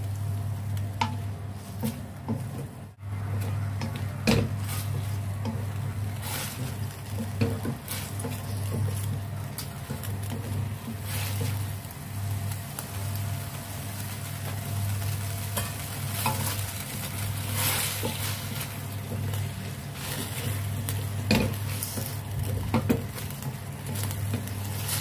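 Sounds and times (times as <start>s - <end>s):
steady low hum: 0.0s - 25.0s
vegetables sizzling in a wok: 0.0s - 25.0s
spatula scraping and knocking pan: 1.0s - 11.7s, 15.6s - 25.0s.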